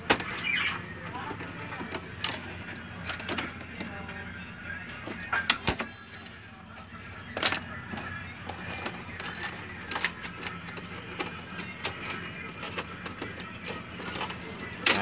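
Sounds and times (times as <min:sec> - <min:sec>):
faint music: 0:00.0 - 0:15.0.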